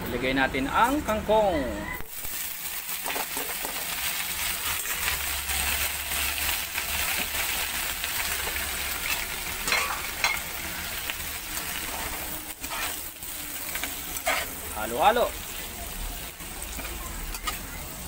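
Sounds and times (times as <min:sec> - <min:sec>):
vegetables sizzling in oil: 0:02.0 - 0:18.0.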